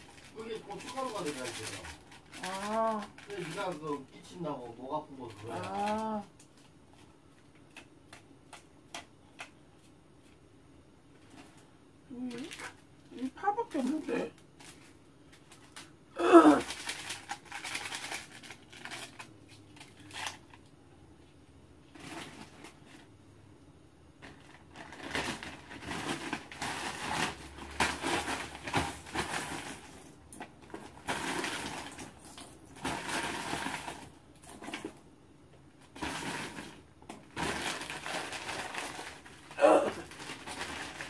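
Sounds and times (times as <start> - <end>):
plastic bag crinkling: 0.0 - 7.9, 11.2 - 20.7, 21.9 - 23.1, 24.2 - 35.0, 35.7 - 41.0.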